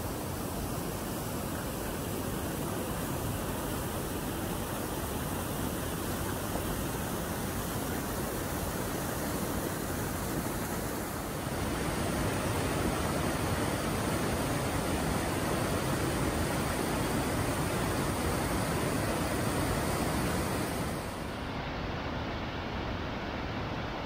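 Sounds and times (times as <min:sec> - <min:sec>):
rushing waterfalls: 0:00.0 - 0:24.0.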